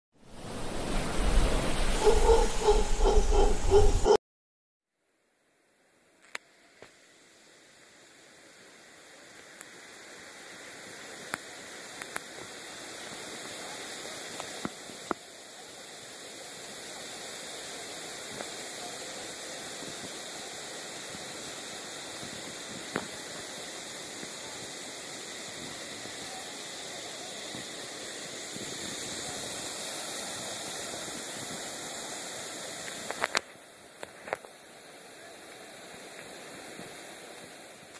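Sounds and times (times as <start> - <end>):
waterfall rushing: 0.3 - 4.2, 9.8 - 37.9.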